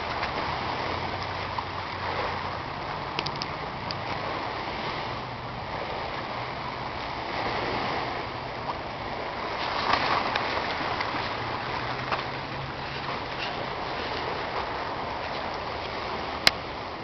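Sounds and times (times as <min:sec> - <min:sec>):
waves washing among rocks: 0:00.0 - 0:17.0.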